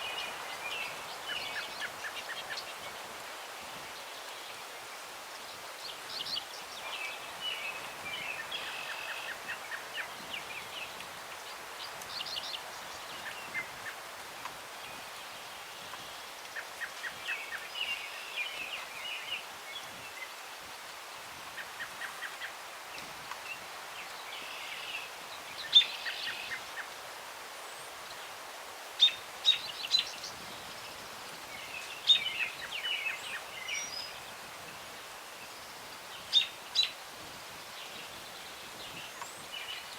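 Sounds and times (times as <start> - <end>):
songbirds singing: 0.0 - 20.4, 21.5 - 39.9
breeze through tree branches: 0.0 - 39.9.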